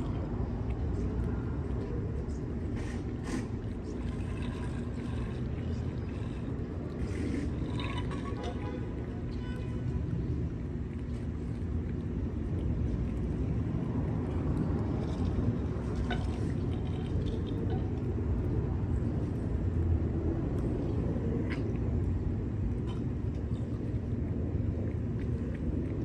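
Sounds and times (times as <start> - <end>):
city traffic rumble: 0.0 - 26.0.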